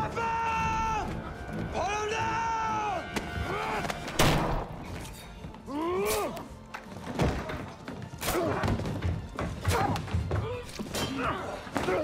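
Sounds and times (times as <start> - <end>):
film score: 0.0 - 12.0.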